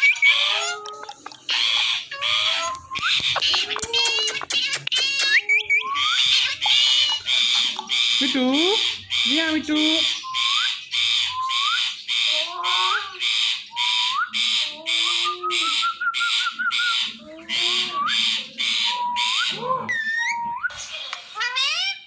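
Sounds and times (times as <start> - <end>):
parrot squawking: 0.0 - 22.0.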